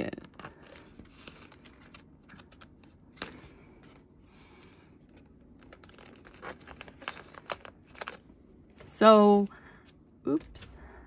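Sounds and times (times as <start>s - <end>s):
plastic binder pages crinkling: 0.1s - 4.1s, 5.1s - 10.9s.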